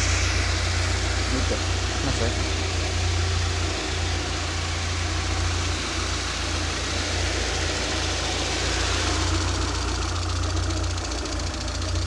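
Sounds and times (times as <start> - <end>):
car engine idling: 0.0 - 12.0
faint engine whine: 0.0 - 12.0.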